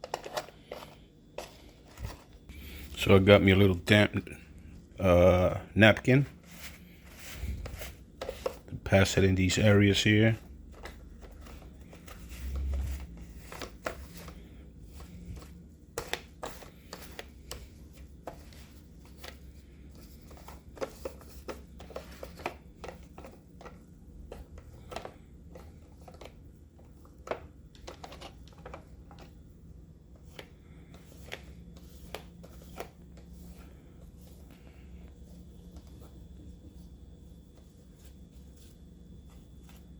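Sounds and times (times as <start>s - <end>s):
plastic parts wiped and handled: 0.0s - 3.2s, 6.2s - 29.4s, 30.1s - 39.9s
faint low hum: 0.0s - 39.9s.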